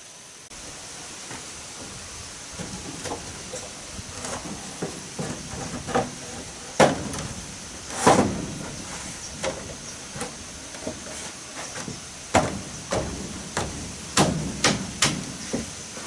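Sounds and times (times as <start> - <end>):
steady hiss: 0.0 - 16.0
wood knocking and thudding: 2.6 - 15.8.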